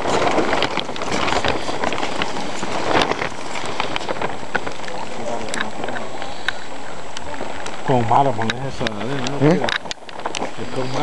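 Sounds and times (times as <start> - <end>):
small crackles: 0.0 - 11.0
wind buffeting microphone: 0.0 - 11.0.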